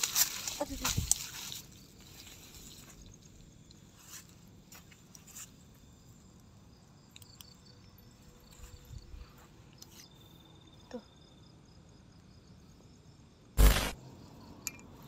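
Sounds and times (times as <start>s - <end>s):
insects chirping softly: 0.0s - 15.0s.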